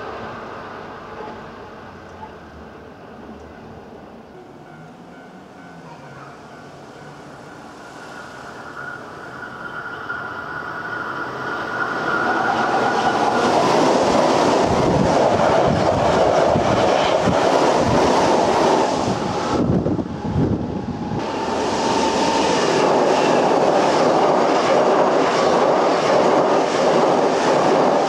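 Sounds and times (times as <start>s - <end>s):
electric train passing at speed: 0.0s - 28.0s.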